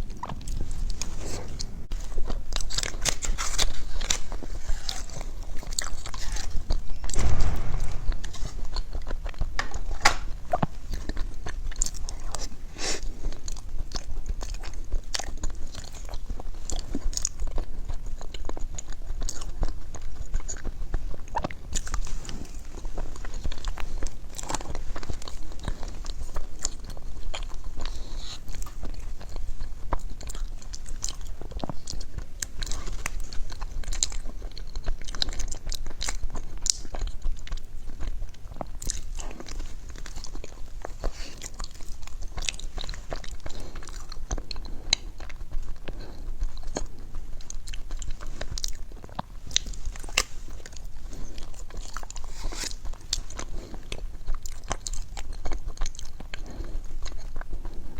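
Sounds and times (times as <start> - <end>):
crunchy food bites and chewing: 0.0 - 57.9.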